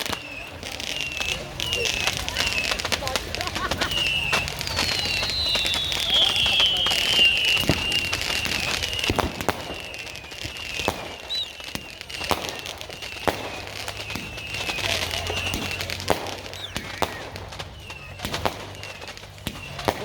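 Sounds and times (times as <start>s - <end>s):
firework bangs: 0.0s - 20.0s
firework crackling: 0.0s - 20.0s
whistling fireworks: 0.0s - 20.0s.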